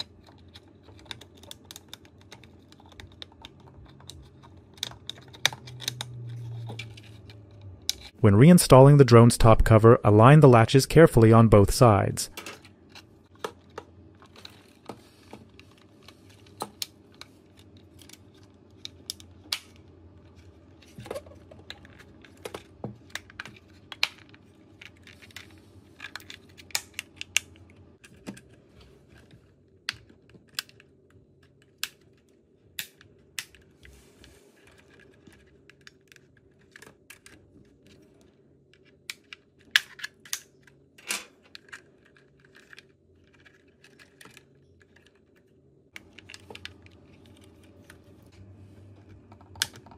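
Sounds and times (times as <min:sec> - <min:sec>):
plastic parts clicking together: 0:00.0 - 0:08.2, 0:12.3 - 0:33.7, 0:34.7 - 0:48.1, 0:49.1 - 0:49.9
faint low hum: 0:00.0 - 0:49.9.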